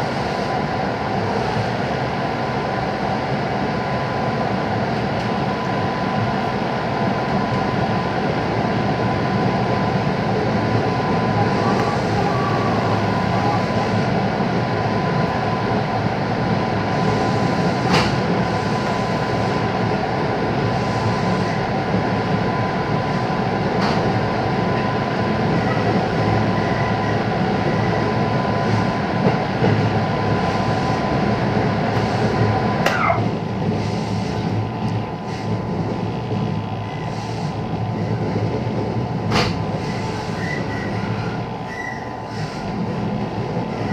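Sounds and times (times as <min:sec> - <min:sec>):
train rolling rumble: 0:00.0 - 0:43.9.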